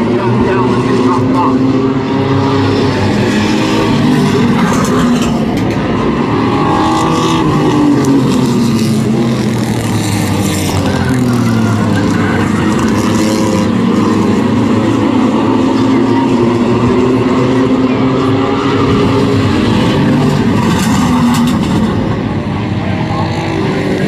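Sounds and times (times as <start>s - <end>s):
race truck engines: 0.0s - 24.0s.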